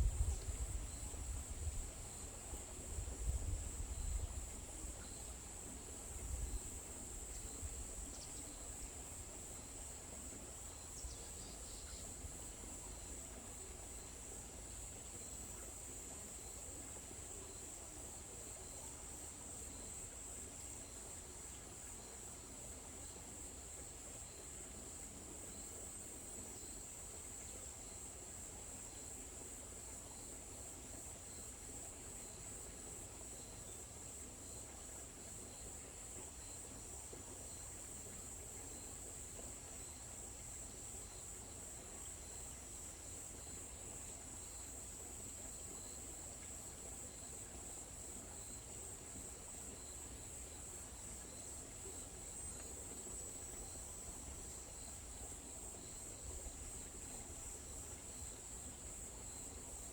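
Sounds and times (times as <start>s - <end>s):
crickets trilling: 0.0s - 59.9s
faint insect chirp: 0.0s - 59.9s.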